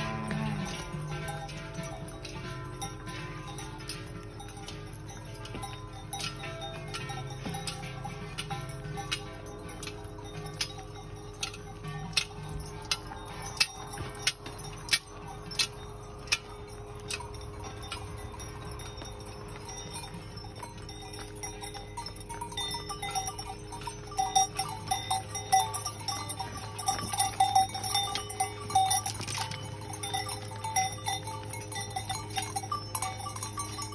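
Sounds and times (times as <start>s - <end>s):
cowbells clanking: 0.0s - 33.9s.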